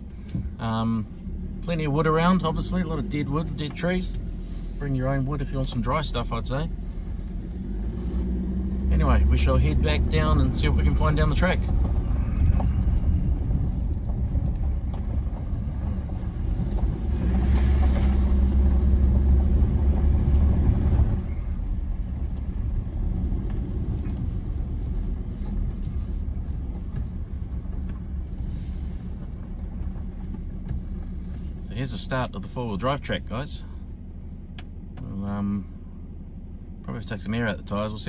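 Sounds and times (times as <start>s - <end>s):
vehicle driving on gravel road: 0.0s - 38.0s.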